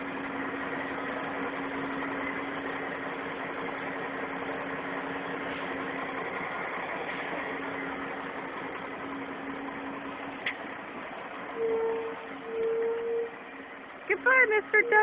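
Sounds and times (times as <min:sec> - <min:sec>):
constant low hum: 0:00.0 - 0:15.0
diesel truck engine running: 0:00.0 - 0:15.0.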